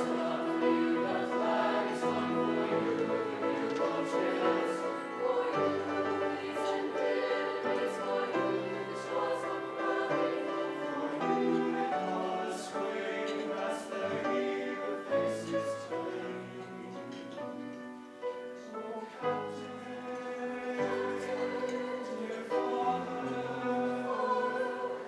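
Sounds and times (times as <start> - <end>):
choir singing sustained chords: 0.0 - 17.2, 18.6 - 25.0.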